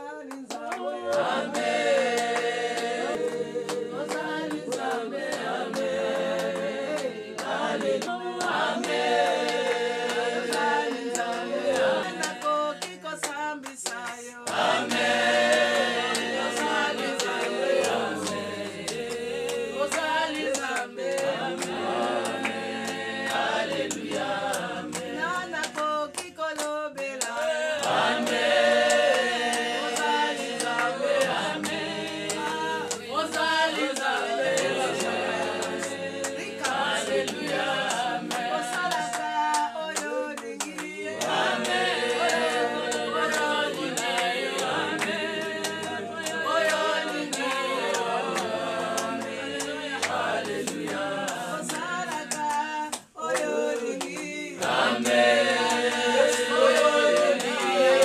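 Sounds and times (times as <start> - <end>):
women singing a hymn: 0.0 - 58.0.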